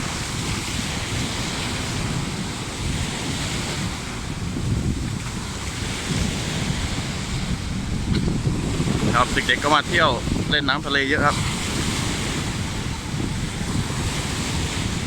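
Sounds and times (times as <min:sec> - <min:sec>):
sea waves washing onto beach: 0:00.0 - 0:15.0
wind buffeting microphone: 0:00.0 - 0:15.0.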